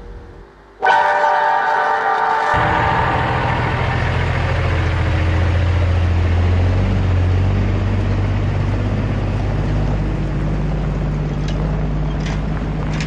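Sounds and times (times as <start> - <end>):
diesel truck engine drone: 2.5 - 13.0.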